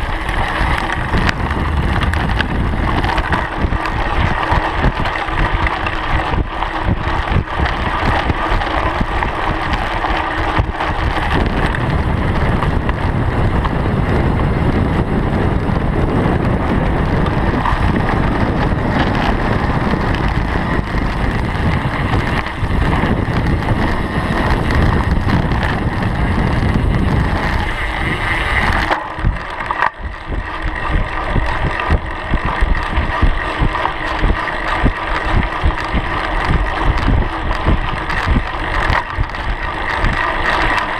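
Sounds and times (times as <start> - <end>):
bike rattling over bumps: 0.0 - 40.9
tyres rolling on gravel: 0.0 - 40.9
wind buffeting microphone: 0.0 - 40.9.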